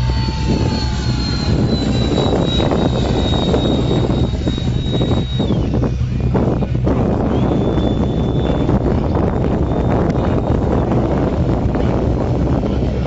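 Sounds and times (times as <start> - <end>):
model jet fan whining: 0.0 - 13.0
steady low rumble: 0.0 - 13.0.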